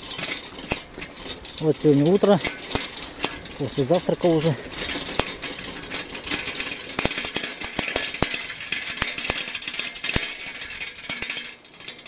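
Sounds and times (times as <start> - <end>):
clicks and rattles through grass: 0.0 - 12.0.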